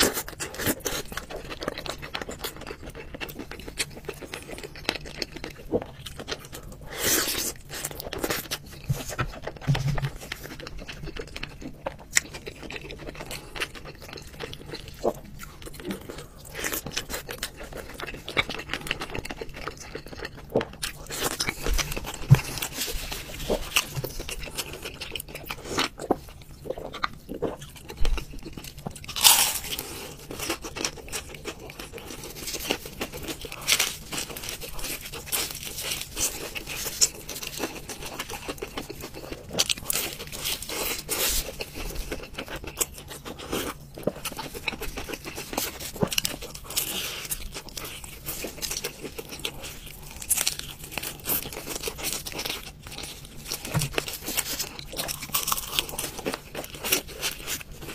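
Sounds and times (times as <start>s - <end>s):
person chewing and crunching food: 0.0s - 57.9s.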